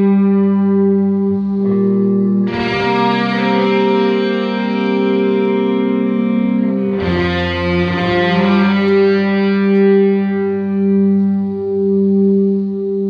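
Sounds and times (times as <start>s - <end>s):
instrumental music with sustained chords: 0.0s - 13.0s.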